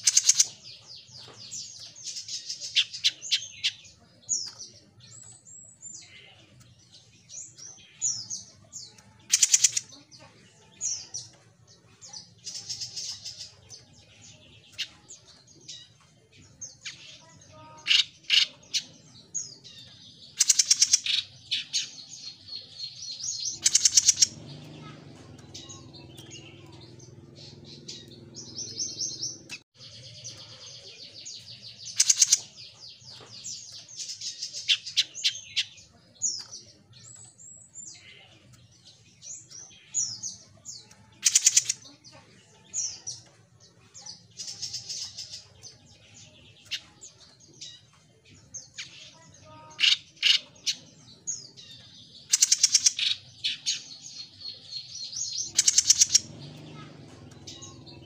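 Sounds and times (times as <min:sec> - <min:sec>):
songbird chirps and trills: 0:00.0 - 0:58.0.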